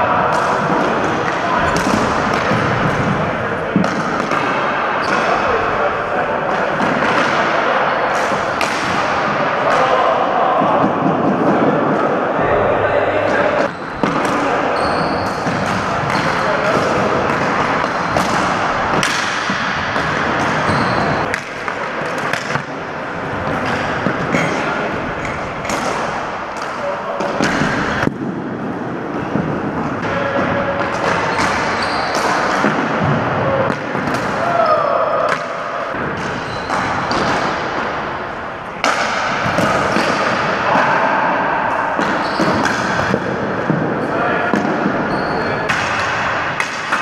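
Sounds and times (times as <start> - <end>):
hockey sticks striking ball and floor: 0.0 - 12.2, 13.3 - 47.0
players running in a hall: 0.0 - 47.0.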